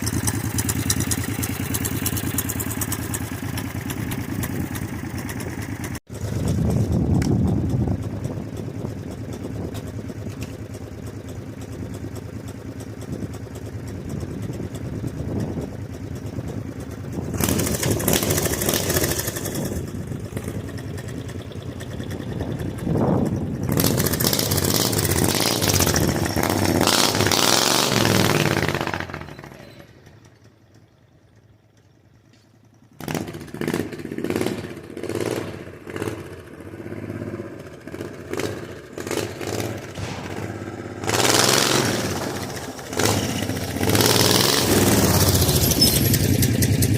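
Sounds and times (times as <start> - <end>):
minibike engine revving: 0.0 - 30.4, 32.9 - 46.9.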